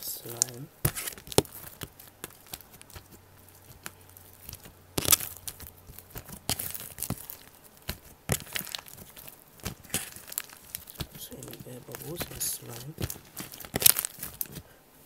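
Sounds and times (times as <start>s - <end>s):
slime crackling and popping: 0.0s - 14.7s
slime squelching: 0.0s - 14.8s.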